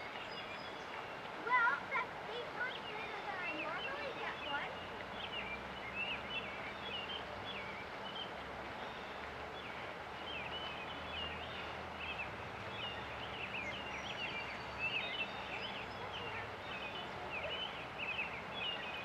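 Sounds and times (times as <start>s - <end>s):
river rushing: 0.0s - 19.0s
songbirds chirping: 0.0s - 19.0s.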